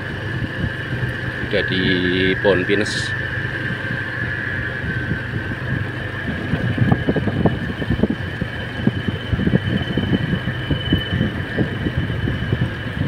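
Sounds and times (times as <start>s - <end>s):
motorcycle engine hum: 0.0s - 13.0s.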